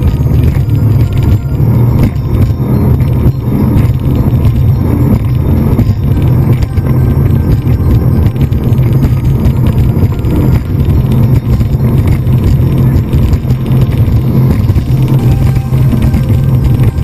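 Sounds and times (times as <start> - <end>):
speedboat engine drone: 0.0 - 17.0.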